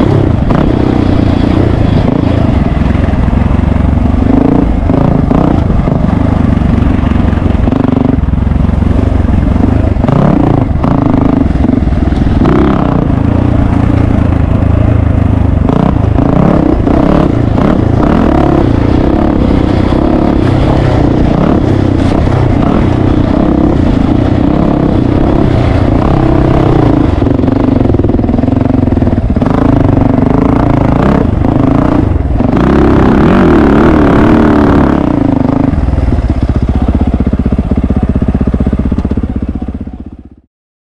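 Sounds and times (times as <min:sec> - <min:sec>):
dirt bike engine revving: 0:00.0 - 0:39.4.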